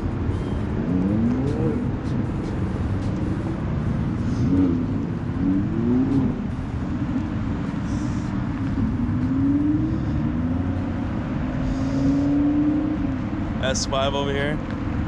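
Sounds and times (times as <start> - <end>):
car engine revving: 0.0 - 15.0
low engine rumble: 0.0 - 15.0.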